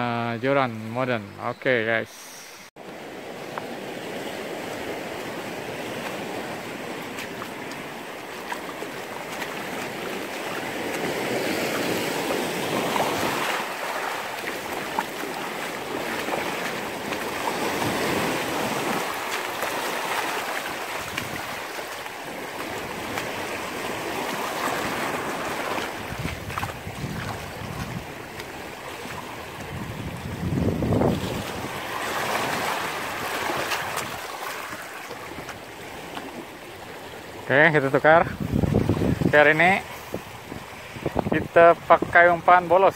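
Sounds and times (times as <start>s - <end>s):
waves washing over rocks: 2.9s - 42.9s.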